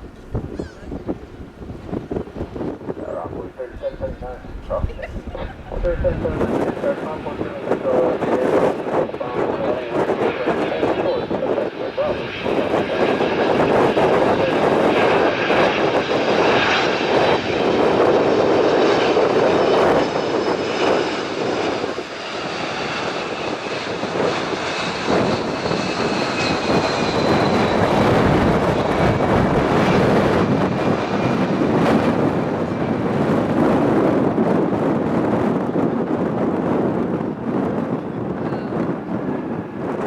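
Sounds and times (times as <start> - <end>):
high engine whine: 0.0 - 33.8
jet engines roaring: 0.0 - 40.0.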